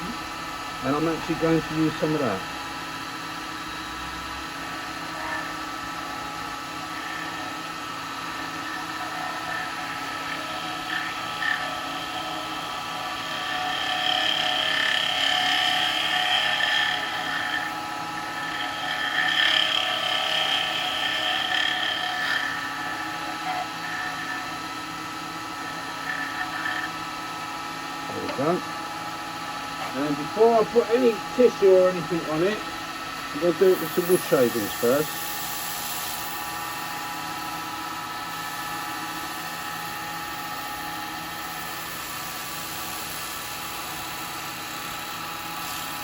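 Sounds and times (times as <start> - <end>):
wood lathe running: 0.0 - 46.0.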